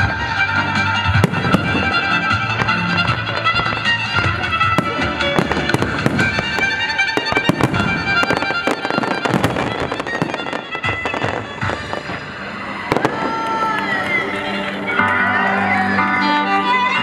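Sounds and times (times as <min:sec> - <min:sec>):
fireworks banging and crackling: 0:00.0 - 0:16.0
music with long held notes: 0:00.0 - 0:17.0.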